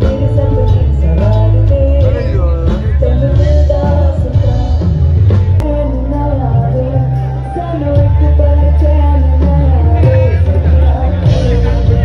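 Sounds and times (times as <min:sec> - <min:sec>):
drums: 0:00.0 - 0:12.0
heavy bass line: 0:00.0 - 0:12.0
live band playing: 0:00.0 - 0:12.0
person singing: 0:00.0 - 0:12.0.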